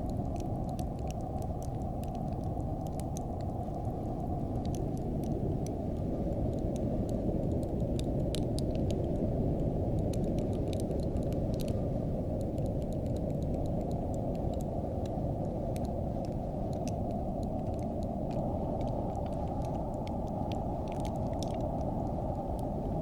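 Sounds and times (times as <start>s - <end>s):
faint crackles and ticks: 0.0s - 23.0s
low wind noise: 0.0s - 23.0s.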